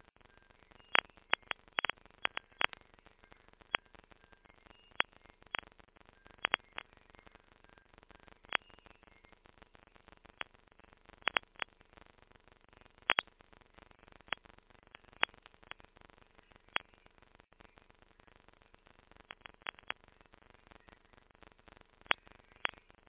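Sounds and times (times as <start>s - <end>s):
crackly digital hiss: 0.0s - 23.0s
muffled band-limited tone: 0.0s - 23.0s
sharp pops and clicks: 0.0s - 23.0s.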